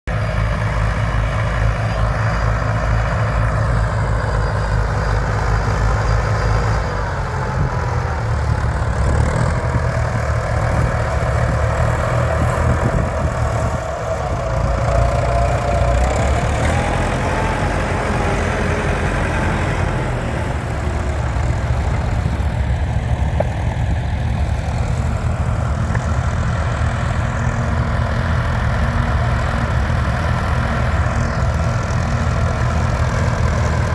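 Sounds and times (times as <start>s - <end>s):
diesel tractor engine running: 0.1s - 33.9s.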